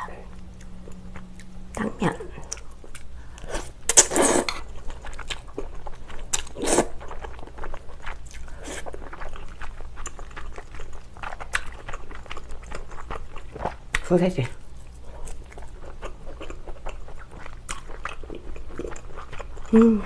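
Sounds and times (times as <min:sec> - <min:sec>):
chewing: 0:00.2 - 0:14.1, 0:14.7 - 0:20.0.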